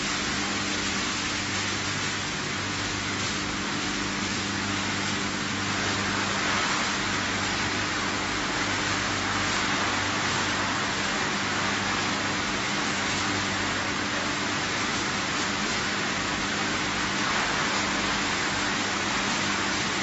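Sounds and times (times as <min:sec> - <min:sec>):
low electric hum: 0:00.0 - 0:20.0
machinery hiss: 0:00.0 - 0:20.0.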